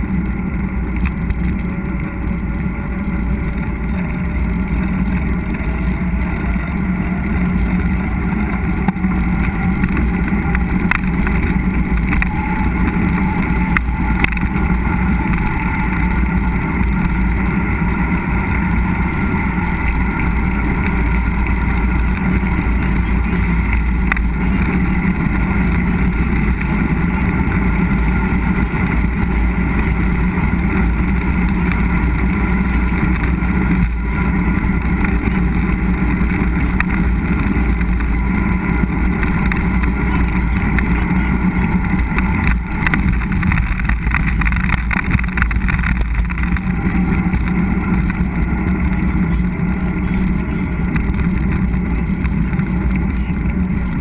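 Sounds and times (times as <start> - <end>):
bike tyres rumbling on trail: 0.0 - 54.0
wind rushing on microphone: 0.0 - 54.0.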